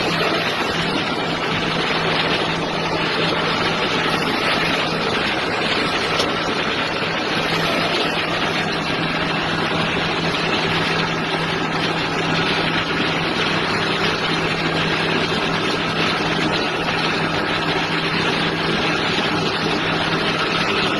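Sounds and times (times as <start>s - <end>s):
lathe running: 0.0s - 20.9s
low motor hum: 0.0s - 20.9s.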